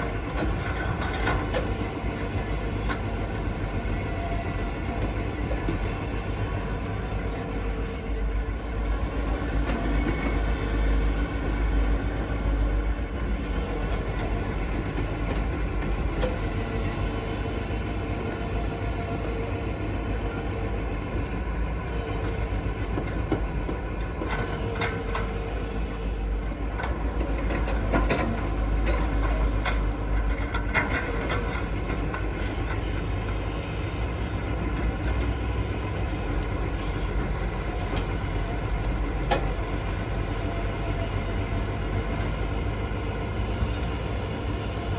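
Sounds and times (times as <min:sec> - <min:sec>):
heavy vehicle engine rumbling: 0:00.0 - 0:44.9.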